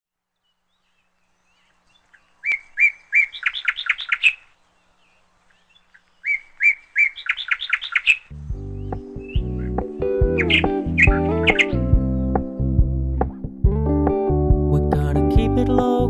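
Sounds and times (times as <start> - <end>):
small songbird singing: 0.3 - 13.3.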